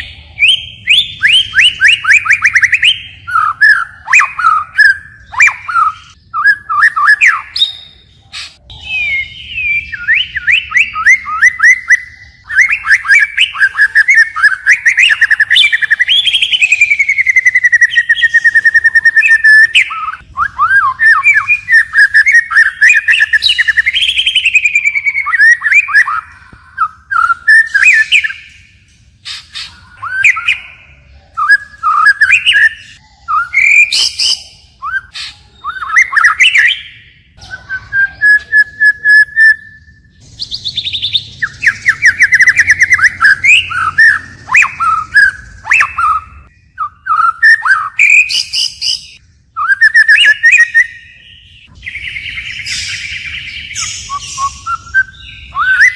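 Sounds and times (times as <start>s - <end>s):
bird singing varied whistles: 0.0s - 8.1s, 8.7s - 28.7s, 29.3s - 30.8s, 31.4s - 55.9s.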